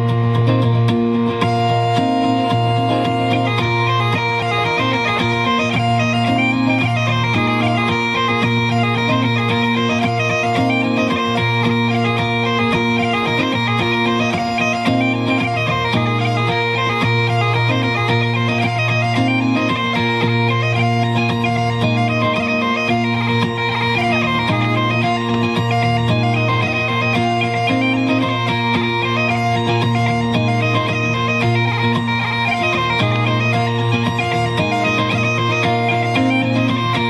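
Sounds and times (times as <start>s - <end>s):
bagpipe drone: 0.0s - 37.0s
bagpipe melody: 0.0s - 37.0s.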